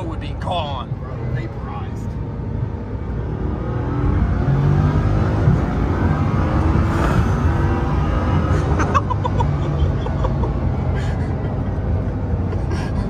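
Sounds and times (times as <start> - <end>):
car engine droning at high speed: 0.0 - 13.0.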